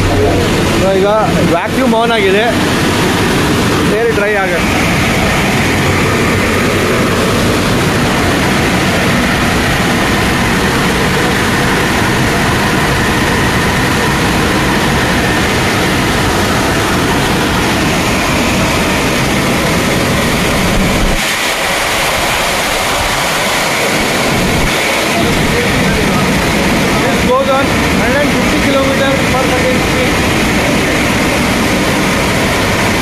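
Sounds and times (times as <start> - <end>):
low rumble: 0.0 - 28.0
air dryers blowing: 0.0 - 33.0.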